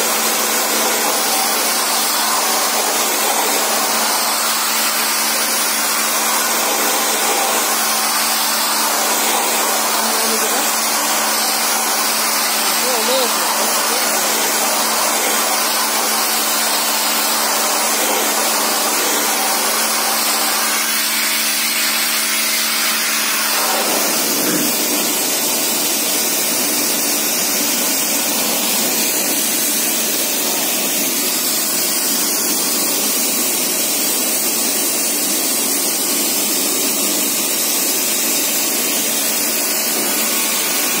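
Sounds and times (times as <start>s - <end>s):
pressure washer water jet hissing: 0.0s - 41.0s.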